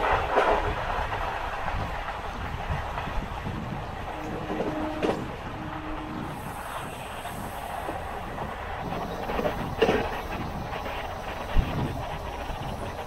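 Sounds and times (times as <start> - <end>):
train coach rumble: 0.0 - 13.0.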